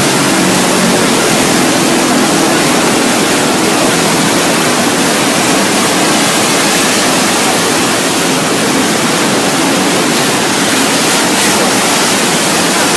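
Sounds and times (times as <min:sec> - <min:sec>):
floodwater rushing: 0:00.0 - 0:12.9.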